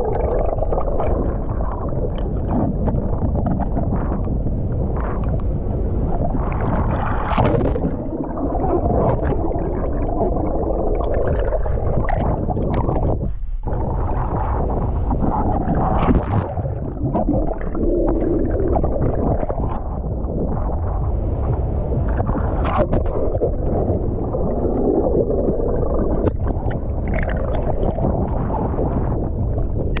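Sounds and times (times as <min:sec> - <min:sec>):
sea water churning and sloshing: 0:00.0 - 0:30.0.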